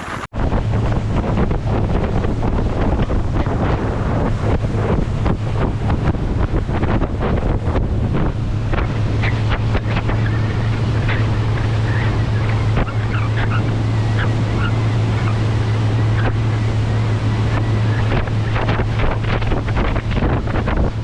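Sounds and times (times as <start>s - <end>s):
boat engine humming: 0.0s - 21.0s
water slapping against hull: 0.0s - 21.0s
wind buffeting microphone: 0.0s - 21.0s.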